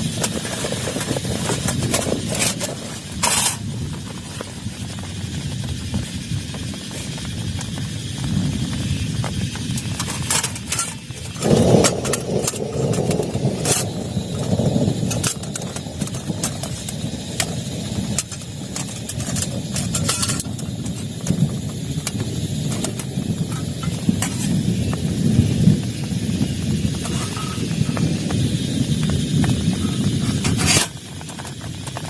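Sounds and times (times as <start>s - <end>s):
heavy rain on plastic tarp: 0.0s - 32.0s
rumble of thunder: 0.0s - 32.0s.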